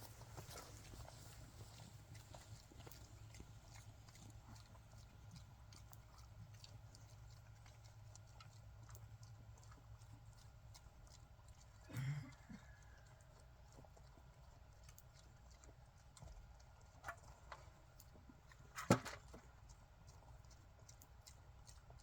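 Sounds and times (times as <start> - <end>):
pigs crunching feed pellets: 0.0 - 22.0.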